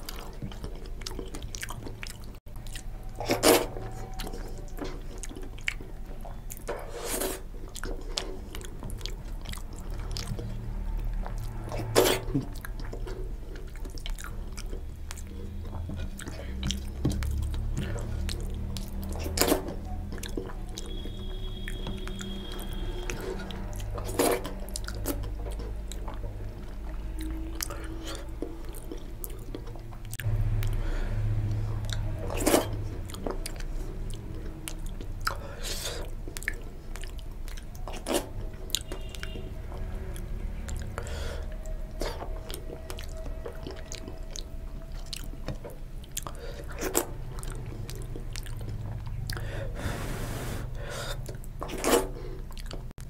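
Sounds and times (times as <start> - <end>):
low steady hum: 0.0 - 53.0
person chewing food: 0.0 - 53.0.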